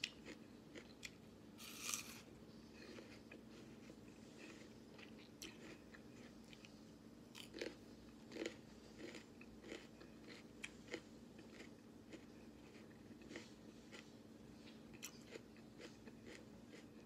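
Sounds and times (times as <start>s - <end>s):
person chewing apple crunches: 0.0s - 17.0s.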